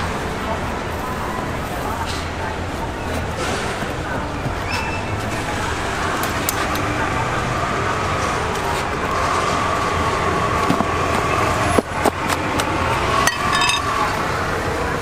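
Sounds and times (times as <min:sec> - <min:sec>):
market noise: 0:00.0 - 0:15.0
traffic rumble and hiss: 0:00.0 - 0:15.0.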